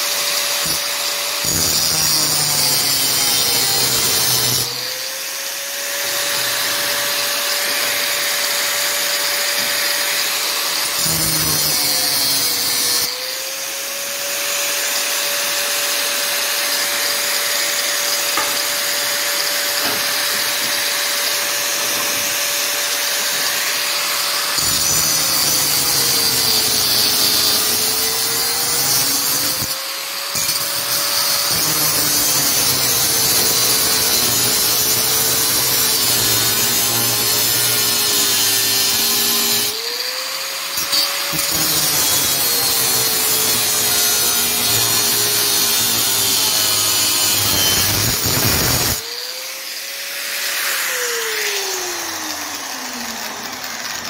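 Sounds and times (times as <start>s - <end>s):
angle grinder cutting metal: 0.0s - 54.0s.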